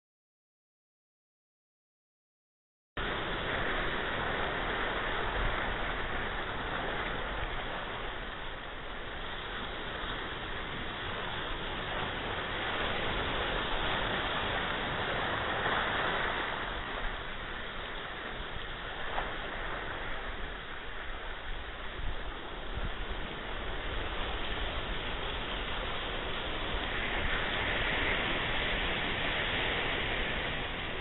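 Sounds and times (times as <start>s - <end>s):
ocean waves breaking: 3.0s - 31.0s.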